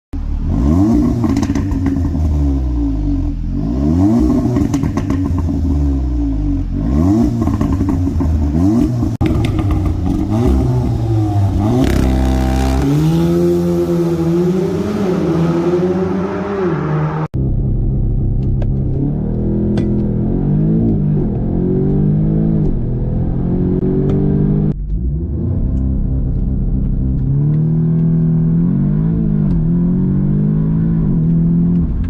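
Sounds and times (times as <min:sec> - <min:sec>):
car engine revving: 0:00.2 - 0:32.0.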